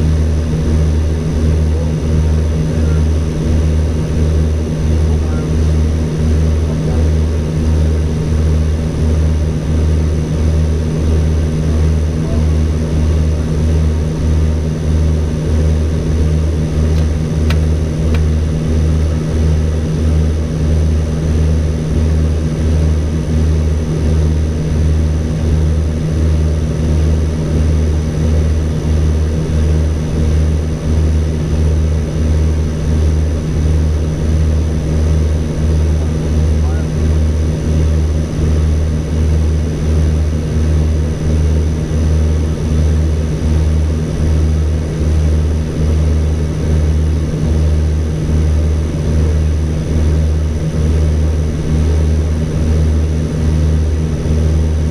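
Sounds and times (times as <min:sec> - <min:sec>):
turboprop engines droning: 0:00.0 - 0:54.9.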